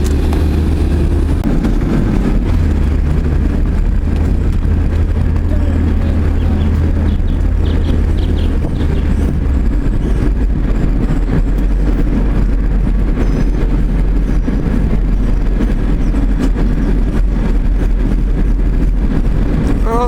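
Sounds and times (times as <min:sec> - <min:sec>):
vehicle rumble from inside: 0:00.0 - 0:20.0.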